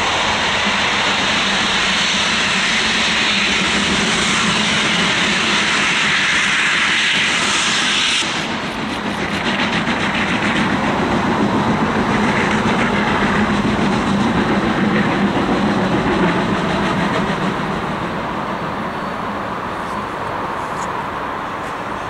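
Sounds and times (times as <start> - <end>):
train coaches rumbling past: 0.0 - 22.0.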